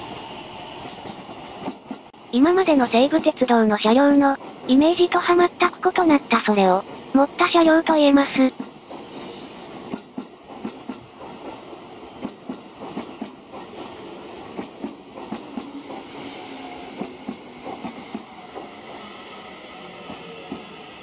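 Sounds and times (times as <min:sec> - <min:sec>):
train rumble: 0:00.0 - 0:21.0
train wheels clicking on track: 0:00.0 - 0:21.0.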